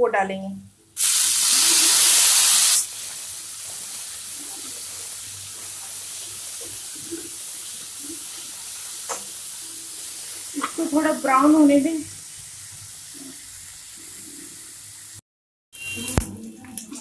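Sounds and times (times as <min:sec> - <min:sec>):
onion sizzling in hot oil: 0:01.0 - 0:15.2.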